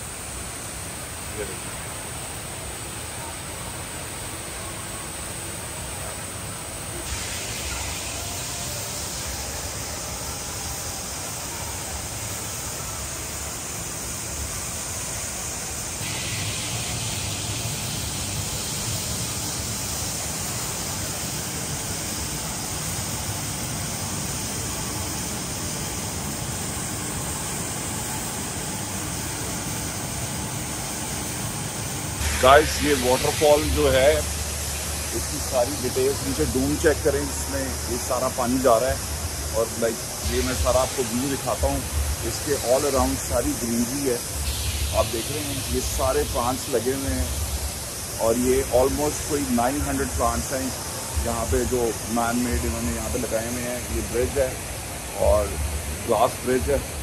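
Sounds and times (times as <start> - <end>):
indoor waterfall roaring: 0.0 - 57.0.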